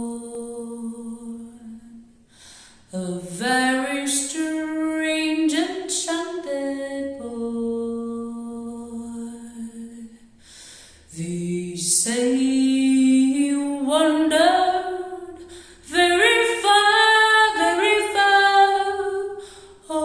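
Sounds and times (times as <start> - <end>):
woman singing unaccompanied: 0.0 - 2.0, 2.9 - 10.1, 11.1 - 20.0.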